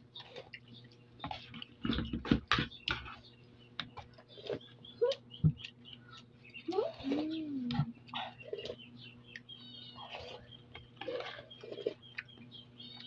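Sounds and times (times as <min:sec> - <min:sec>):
clicks and knocks of eating: 0:00.0 - 0:13.0.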